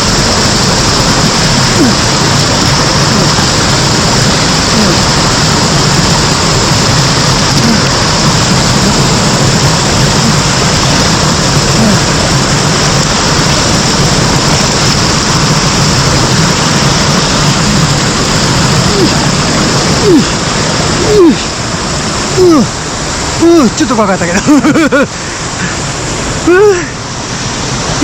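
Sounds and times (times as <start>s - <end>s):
waterfall roaring over rock: 0.0s - 28.0s.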